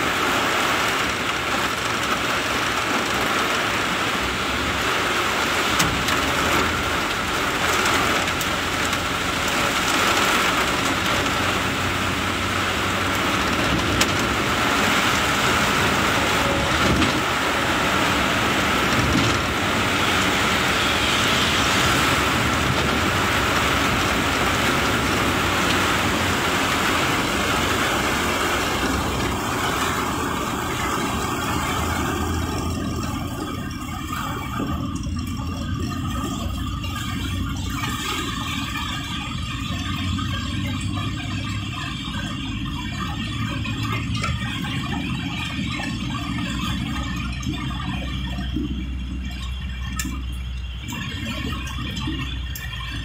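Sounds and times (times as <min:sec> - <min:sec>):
heavy rain pouring: 0:00.0 - 0:53.0
vehicle driving on wet road: 0:00.0 - 0:53.0.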